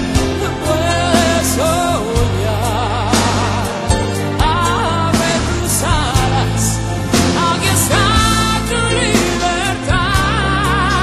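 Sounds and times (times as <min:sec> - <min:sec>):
pop song music: 0:00.0 - 0:11.0.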